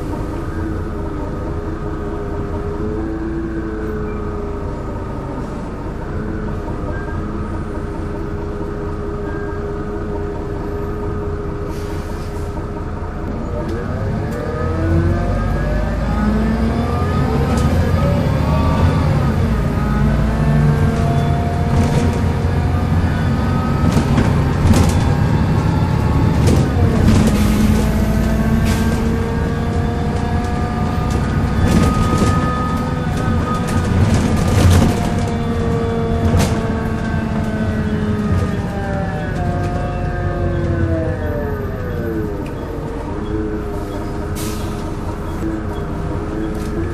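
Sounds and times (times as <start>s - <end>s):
bus engine groaning: 0.0s - 46.9s.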